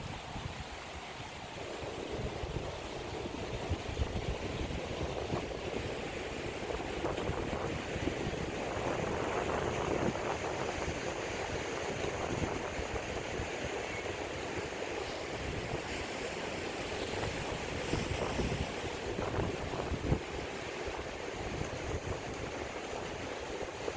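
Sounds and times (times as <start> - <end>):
sea surf washing in: 0.0 - 23.9
wind buffeting microphone: 0.0 - 23.9.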